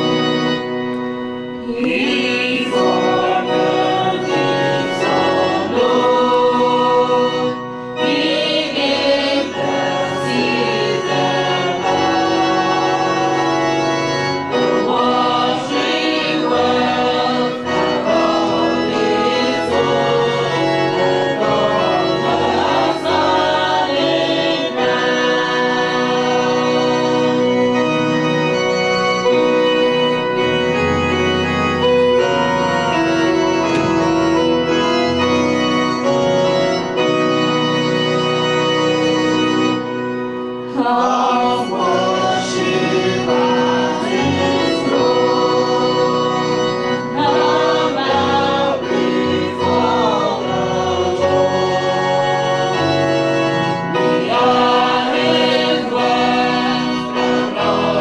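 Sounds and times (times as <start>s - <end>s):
congregation singing a hymn: 0.0s - 58.0s
organ playing a hymn: 0.0s - 58.0s.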